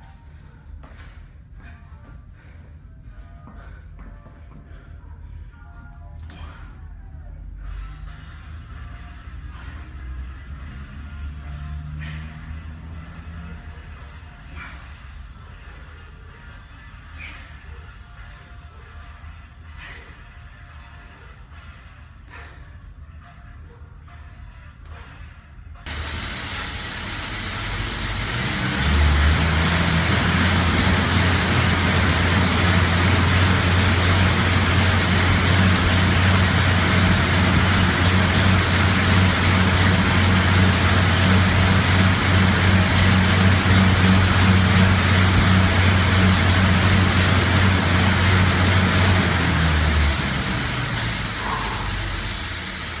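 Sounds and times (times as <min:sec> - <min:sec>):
steady low hum: 0:00.0 - 0:53.0
air bike fan whooshing: 0:07.6 - 0:23.0, 0:24.8 - 0:53.0.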